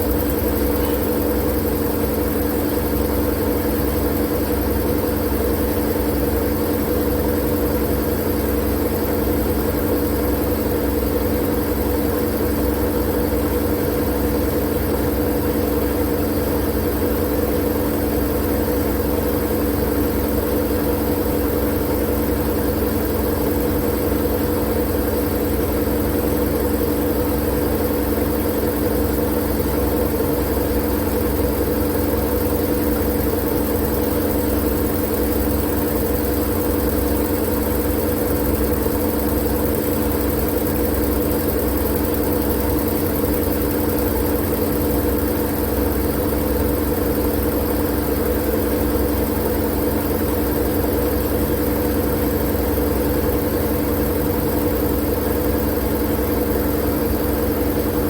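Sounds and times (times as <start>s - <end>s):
machine-like hum: 0.0s - 58.0s.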